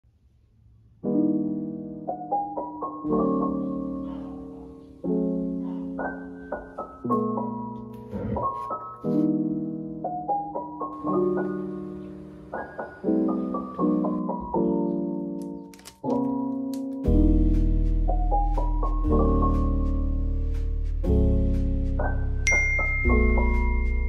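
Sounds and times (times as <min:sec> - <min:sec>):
soft lo-fi piano music: 0:01.0 - 0:24.0.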